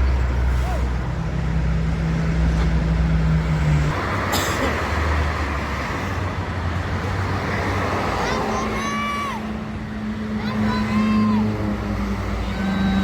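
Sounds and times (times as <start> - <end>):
heavy vehicle engine drone: 0.0 - 13.0
tyre and road noise: 0.0 - 13.0.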